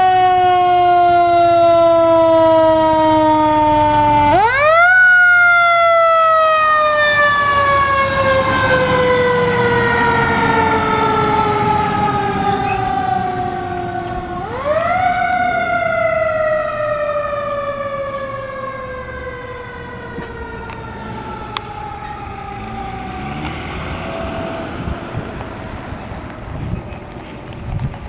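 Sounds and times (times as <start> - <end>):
fire engine siren winding: 0.0 - 27.2.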